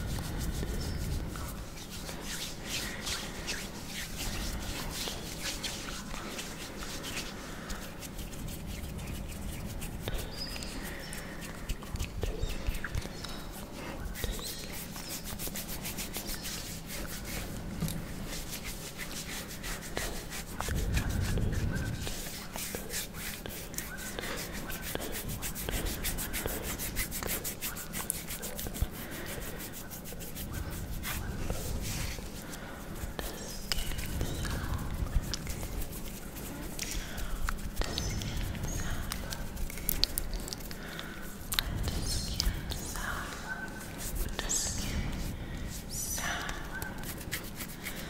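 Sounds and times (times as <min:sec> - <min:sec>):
hands rubbing skin: 0:00.0 - 0:48.0.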